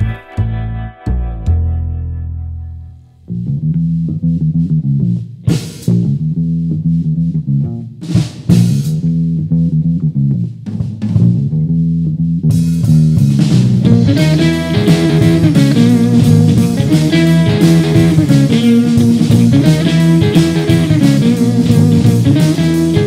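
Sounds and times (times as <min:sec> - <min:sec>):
rock band playing: 0:00.0 - 0:02.2, 0:04.2 - 0:23.0
electric bass riff: 0:00.0 - 0:23.0.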